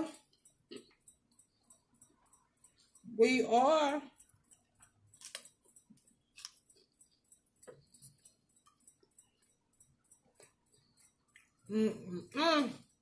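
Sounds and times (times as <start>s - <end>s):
faint clicks and taps from eating: 0.0s - 3.2s, 4.0s - 11.7s.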